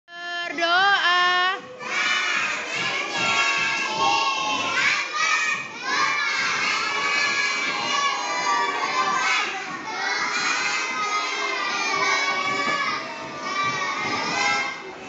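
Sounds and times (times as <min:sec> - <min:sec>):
children chanting in unison: 0:01.8 - 0:15.0.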